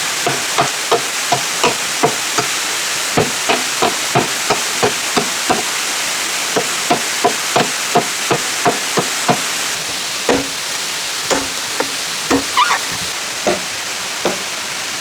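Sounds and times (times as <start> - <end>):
hand tool striking wood: 0.1 - 5.9, 6.5 - 14.6.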